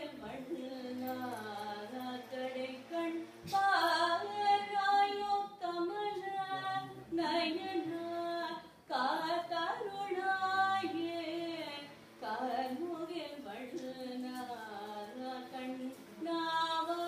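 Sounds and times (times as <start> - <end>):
woman singing devotional song: 0.0 - 17.0.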